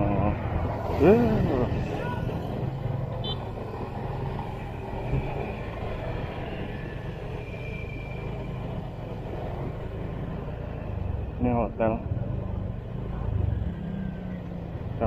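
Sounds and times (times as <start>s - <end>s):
vehicle engine and traffic rumble: 0.0s - 15.0s.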